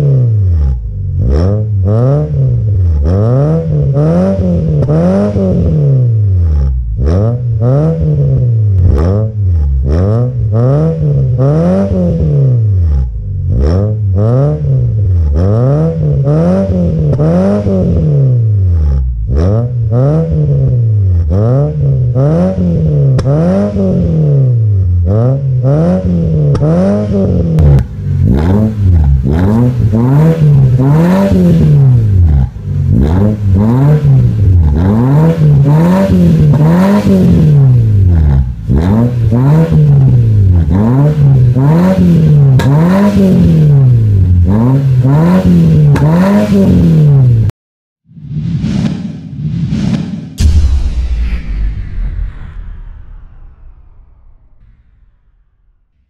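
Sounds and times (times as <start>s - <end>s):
car engine revving: 0.0s - 47.5s.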